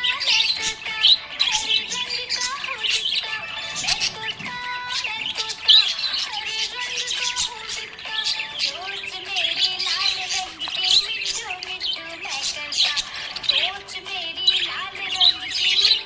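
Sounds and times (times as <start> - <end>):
background music with held notes: 0.0 - 16.0
parrots chirping and squawking: 0.0 - 16.0.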